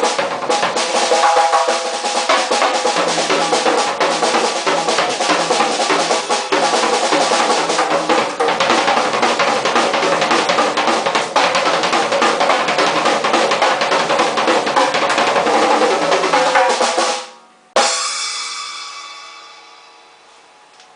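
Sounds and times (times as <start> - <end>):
fast drum kit rolls: 0.0 - 20.2.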